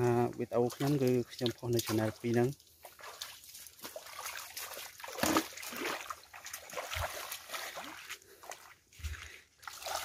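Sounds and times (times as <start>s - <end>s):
stream water splashing: 0.0s - 10.0s.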